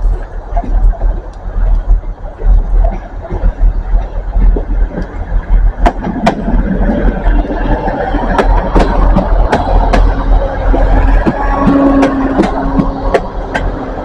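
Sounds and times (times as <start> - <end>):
sharp train clicks: 0.0 - 14.0
train rumbling: 0.0 - 14.0.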